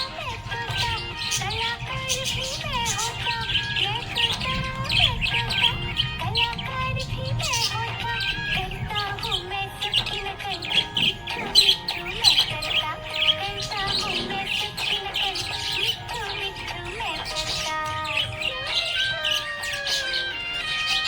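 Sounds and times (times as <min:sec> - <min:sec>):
background music: 0:00.0 - 0:21.0
budgerigars chirping and warbling: 0:00.0 - 0:21.0.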